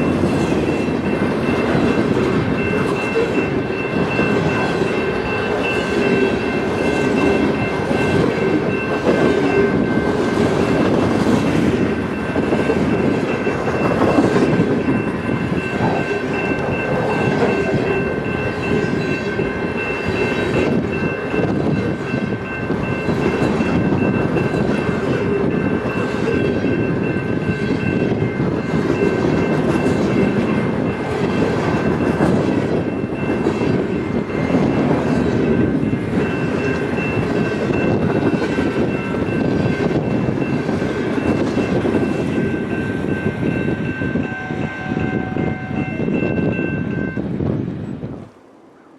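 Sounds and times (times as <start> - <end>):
train wheels clicking over rail joints: 0.0 - 44.3
railroad cars rumbling: 0.0 - 48.9.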